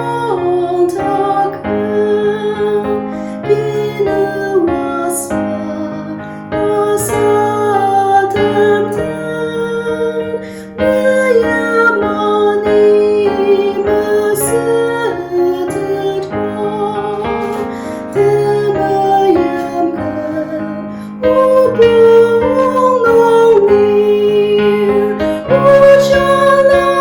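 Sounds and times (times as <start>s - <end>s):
slow keyboard music: 0.0s - 27.0s.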